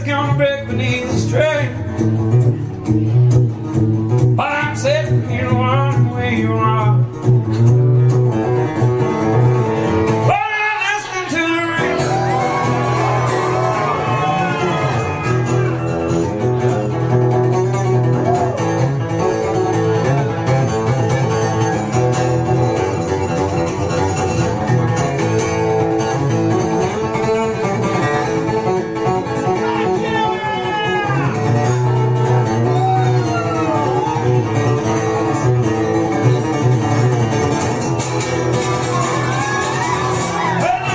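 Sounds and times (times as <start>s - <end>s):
acoustic guitar strummed and picked: 0.0s - 40.9s.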